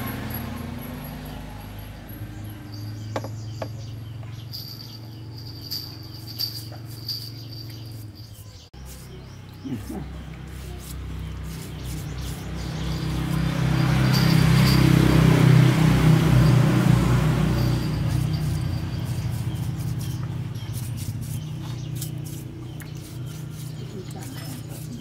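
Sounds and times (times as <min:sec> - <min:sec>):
vehicle engine running: 0:00.0 - 0:25.0
birds chirping faintly: 0:00.4 - 0:15.7, 0:16.3 - 0:25.0.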